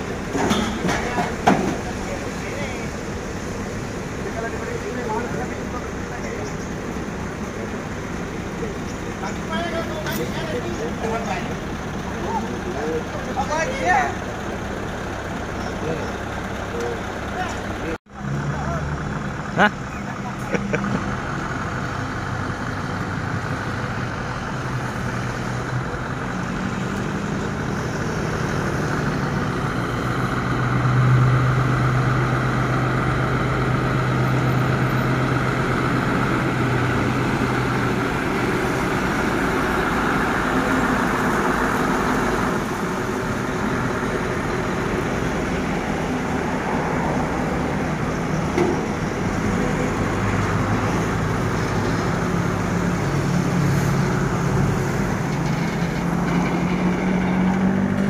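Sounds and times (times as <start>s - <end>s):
truck engine running: 0.0s - 58.0s
tyre and road noise: 0.0s - 58.0s.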